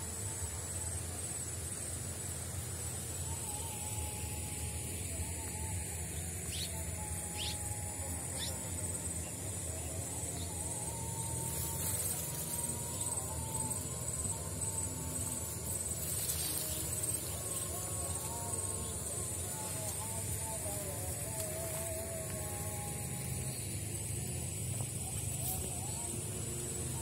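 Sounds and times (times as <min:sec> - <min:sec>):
insects trilling: 0:00.0 - 0:27.0
rapid pulsing chirp: 0:02.2 - 0:27.0.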